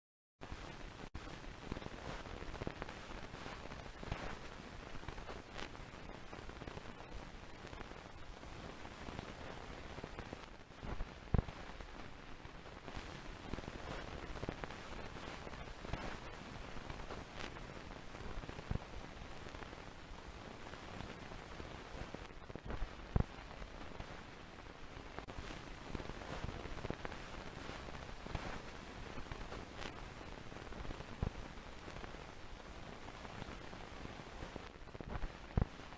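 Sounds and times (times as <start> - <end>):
hissing crackling noise: 0.5 - 35.9.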